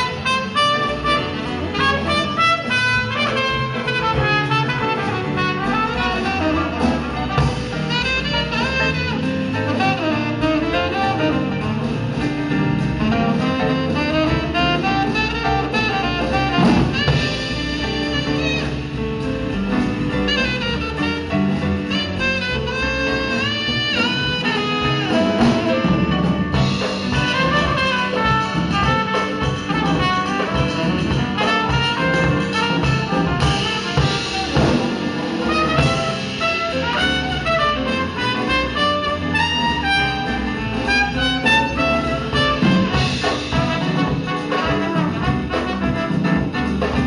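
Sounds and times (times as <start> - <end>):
tenor saxophone melody: 0.0 - 12.0, 13.0 - 19.0, 20.3 - 47.0
bass: 0.0 - 47.0
drums: 0.0 - 47.0
piano: 0.0 - 47.0
trumpet melody: 0.0 - 47.0.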